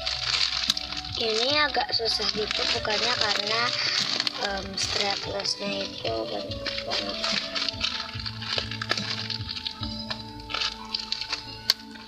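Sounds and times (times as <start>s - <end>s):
background music: 0.0s - 12.0s
plastic package crackling: 0.0s - 12.0s.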